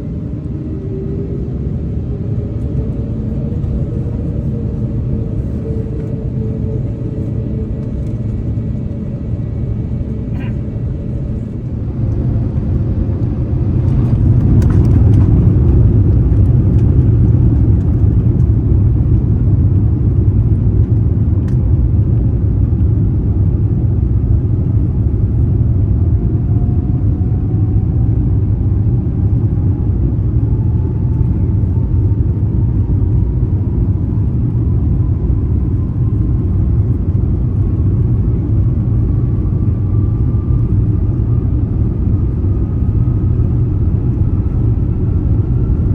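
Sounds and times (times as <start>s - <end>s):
jet engines low rumble: 0.0s - 45.9s.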